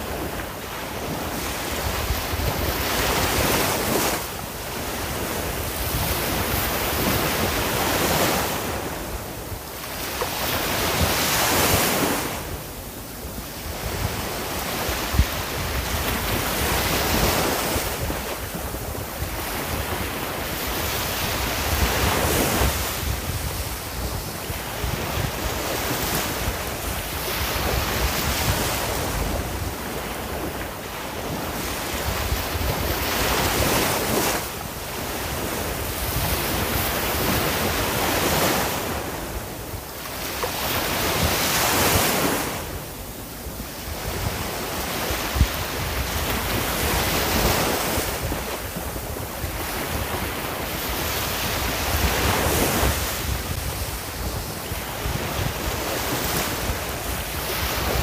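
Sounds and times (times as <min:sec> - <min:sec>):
sea waves breaking on shore: 0:00.0 - 0:58.0
wind noise on microphone: 0:00.0 - 0:58.0.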